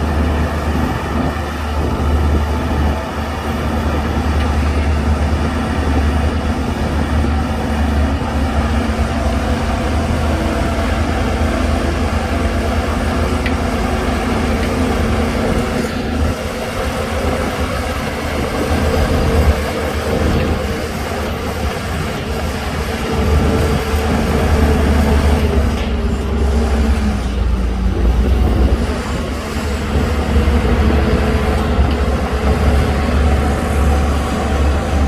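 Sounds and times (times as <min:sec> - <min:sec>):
heavy diesel engine droning: 0:00.0 - 0:35.0.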